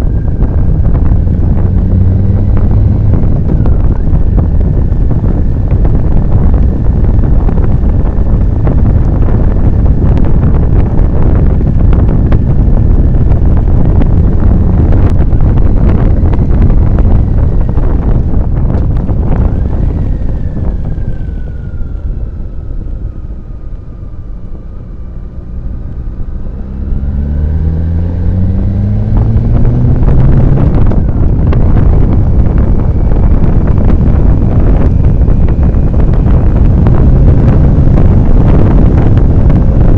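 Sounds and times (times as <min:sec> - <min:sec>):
motorcycle engine: 0:00.0 - 0:39.9
wind buffeting microphone: 0:00.0 - 0:39.9.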